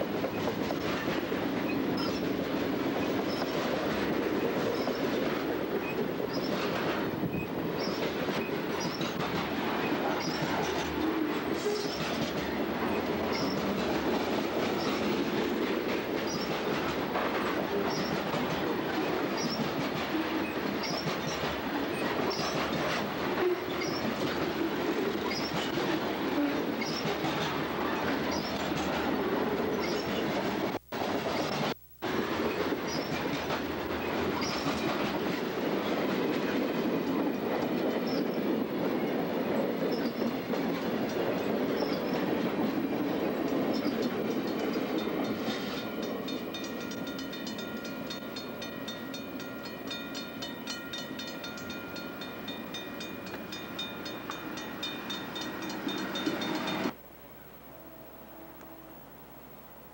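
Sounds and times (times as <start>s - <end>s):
freight train wheels clattering: 0.0s - 30.8s, 31.4s - 57.0s.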